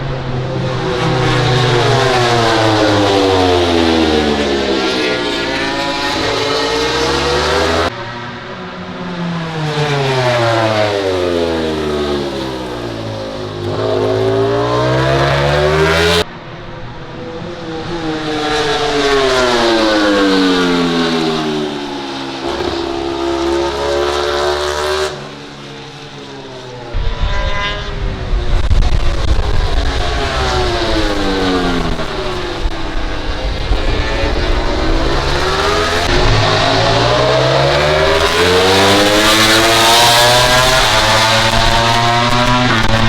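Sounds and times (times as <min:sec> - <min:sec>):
racing motorcycles: 0:00.0 - 0:43.0.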